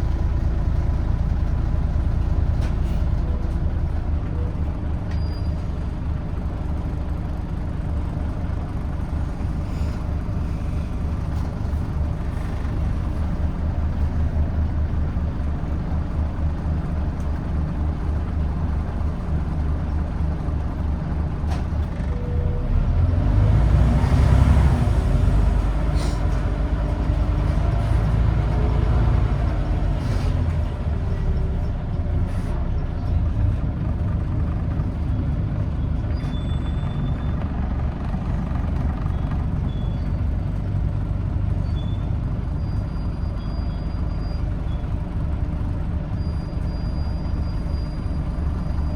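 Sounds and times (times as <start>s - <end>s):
bus diesel engine rumbling: 0.0s - 48.9s.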